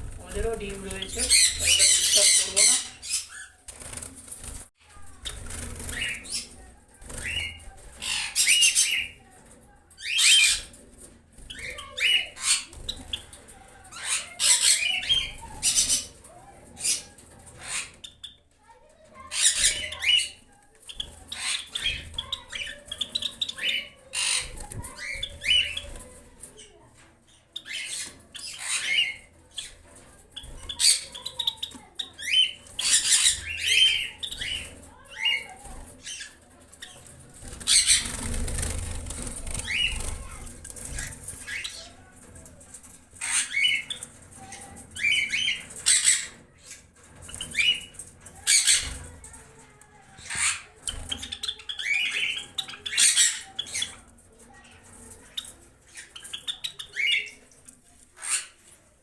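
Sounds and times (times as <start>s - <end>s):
sparrows chirping: 0.0s - 4.3s, 4.9s - 10.8s, 11.4s - 58.7s
wings flapping and rustling: 0.0s - 59.0s.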